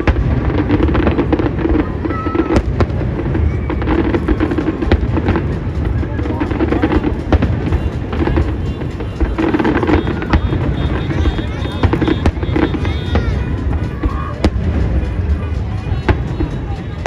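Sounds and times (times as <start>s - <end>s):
fireworks bangs and crackles: 0.0s - 17.0s
music: 0.0s - 17.0s
voices: 0.0s - 17.0s.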